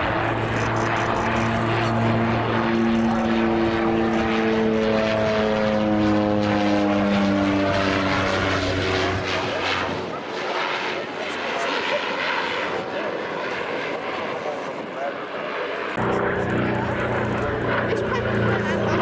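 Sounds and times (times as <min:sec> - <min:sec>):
propeller aircraft flying past: 0:00.0 - 0:19.0.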